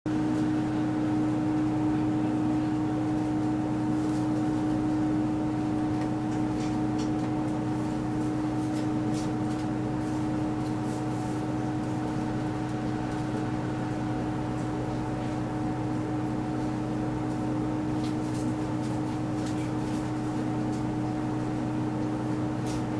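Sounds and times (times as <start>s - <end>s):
diesel railcar engine drone: 0.1s - 22.9s.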